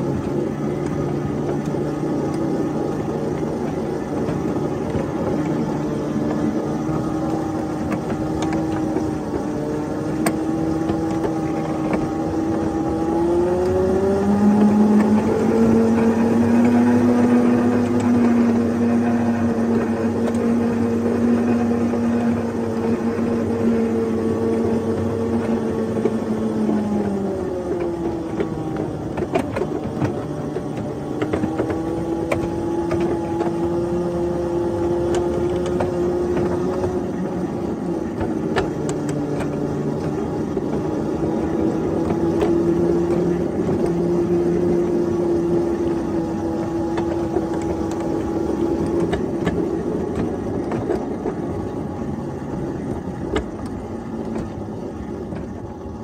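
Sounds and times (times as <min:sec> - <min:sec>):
ride-on locomotive drone: 0:00.0 - 0:56.0.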